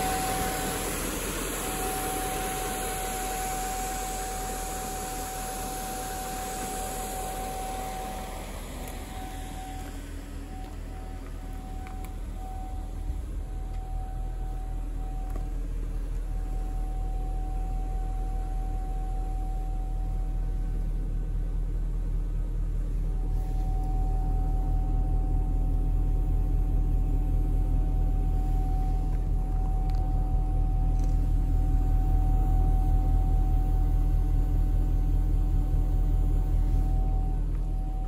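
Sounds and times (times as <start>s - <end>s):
car engine idling: 0.0s - 38.0s
faint steady whine: 0.0s - 38.0s.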